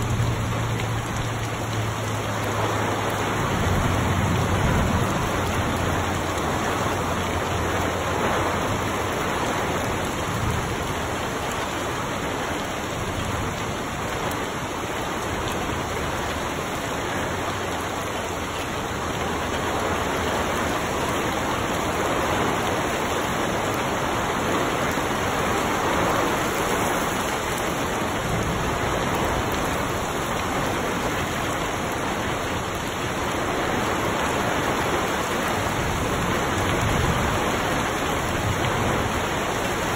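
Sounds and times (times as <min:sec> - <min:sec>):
rain falling on trees and grass: 0:00.0 - 0:39.9.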